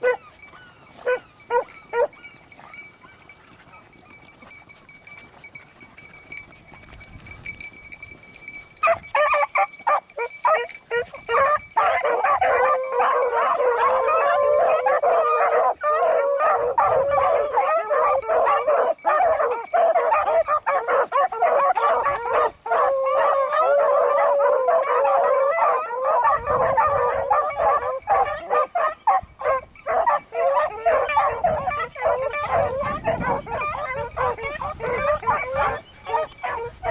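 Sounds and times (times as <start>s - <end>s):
pack of hounds baying: 0.0s - 5.4s, 8.7s - 36.9s.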